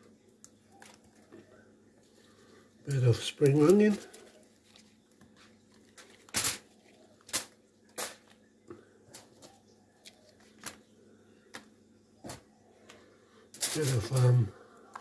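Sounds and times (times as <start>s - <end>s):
aluminium foil crinkling: 0.3s - 8.5s, 9.1s - 11.6s, 13.6s - 15.0s.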